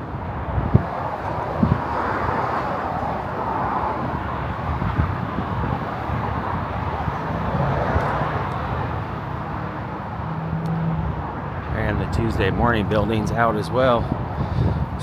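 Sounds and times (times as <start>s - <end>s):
road traffic rushing: 0.0s - 15.0s
vehicles passing: 0.0s - 15.0s.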